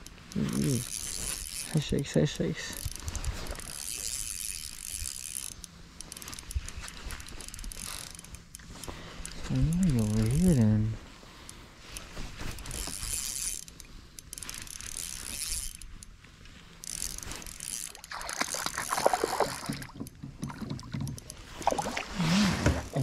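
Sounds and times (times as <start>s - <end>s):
fishing reel gears clicking: 0.0s - 10.9s, 11.9s - 20.2s.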